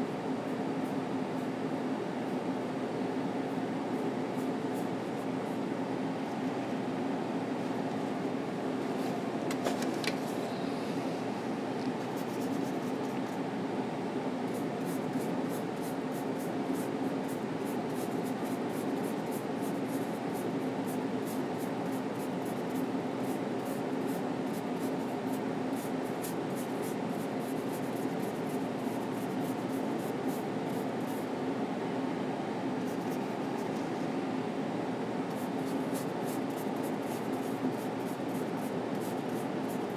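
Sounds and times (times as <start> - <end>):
low room hum: 0.0 - 39.9.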